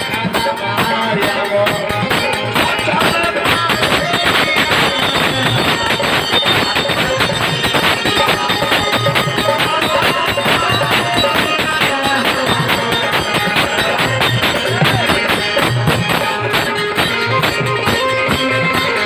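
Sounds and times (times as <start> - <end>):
hand percussion and jingles: 0.0 - 19.0.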